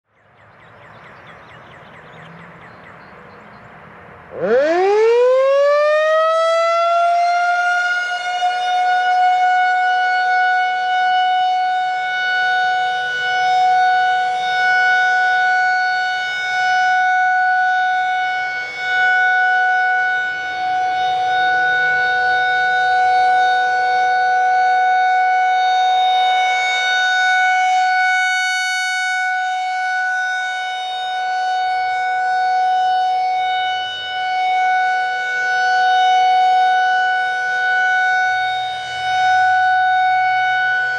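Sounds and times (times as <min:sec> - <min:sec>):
warning siren wailing: 0:00.1 - 0:40.9.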